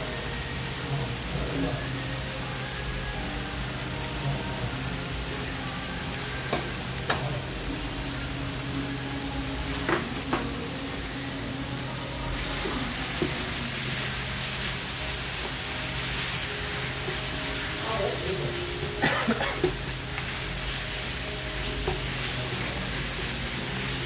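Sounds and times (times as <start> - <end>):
food sizzling on griddle: 0.0 - 24.0.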